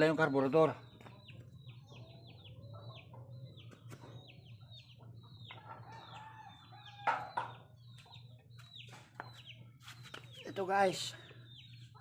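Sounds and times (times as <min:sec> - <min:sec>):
chicks peeping: 0:00.8 - 0:12.0.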